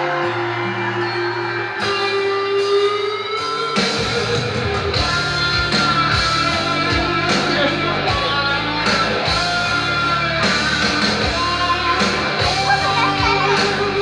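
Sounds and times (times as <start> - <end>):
electric guitar with band: 0.0 - 14.0.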